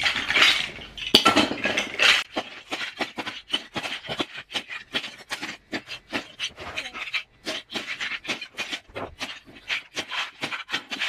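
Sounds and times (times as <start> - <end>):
plastic toy blocks clattering: 0.0 - 11.0.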